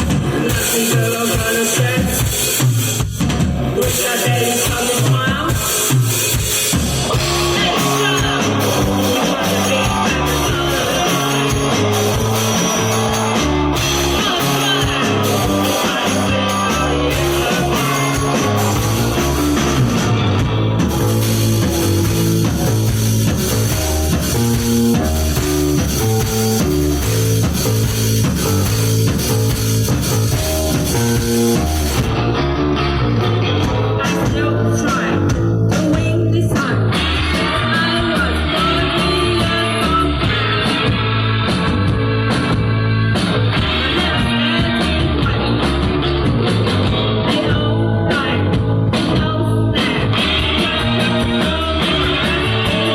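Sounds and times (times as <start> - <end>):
bass guitar: 0.0 - 52.9
drum kit: 0.0 - 52.9
electric guitar: 0.0 - 52.9.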